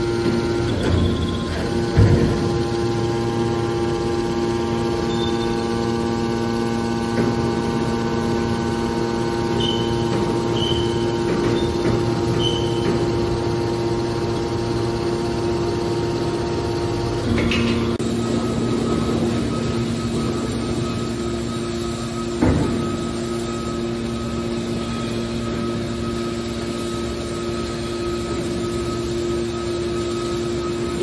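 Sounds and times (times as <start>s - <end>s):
hydraulic pump motor hum: 0.0s - 31.0s.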